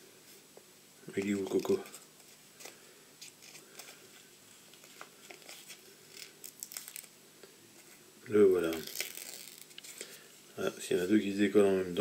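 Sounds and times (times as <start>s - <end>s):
rustling of materials being handled: 1.1s - 7.1s, 7.7s - 11.5s.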